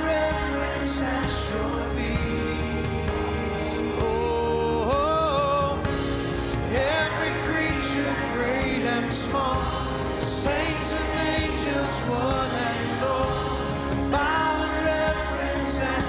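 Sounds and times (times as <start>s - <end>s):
instrumental accompaniment: 0.0s - 16.0s
man singing worship song: 0.0s - 16.0s.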